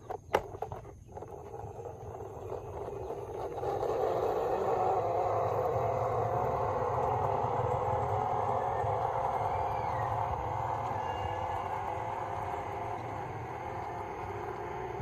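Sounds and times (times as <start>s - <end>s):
vehicle running: 0.2s - 15.0s.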